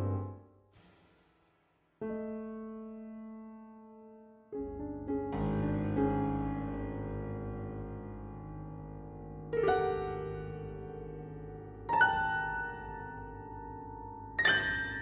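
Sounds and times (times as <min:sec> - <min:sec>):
slow piano music: 0:00.0 - 0:00.6, 0:02.0 - 0:15.0.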